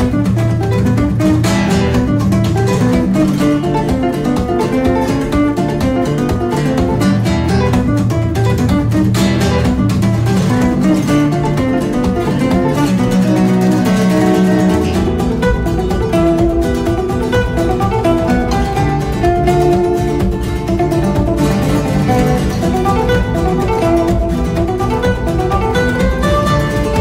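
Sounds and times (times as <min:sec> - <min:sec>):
acoustic guitar plucking: 0:00.0 - 0:27.0.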